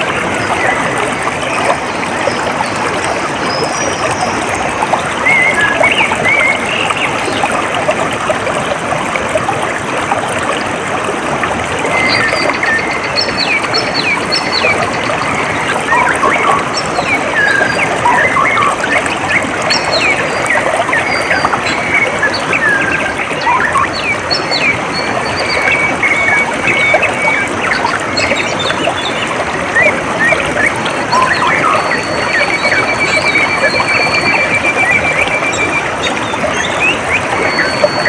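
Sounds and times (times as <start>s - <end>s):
birds chirping: 0.0s - 7.7s, 11.9s - 38.0s
water trickling: 0.0s - 38.0s.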